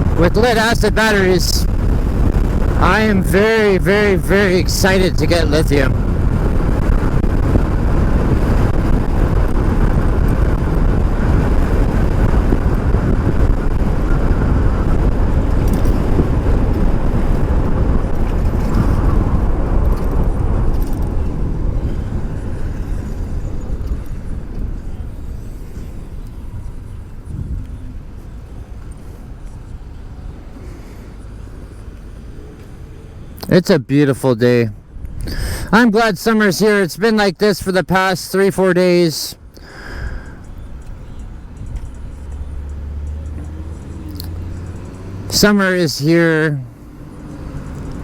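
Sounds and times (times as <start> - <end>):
wind noise: 0.0 - 33.7, 34.3 - 38.3, 39.4 - 48.0
road rumble: 0.0 - 48.0.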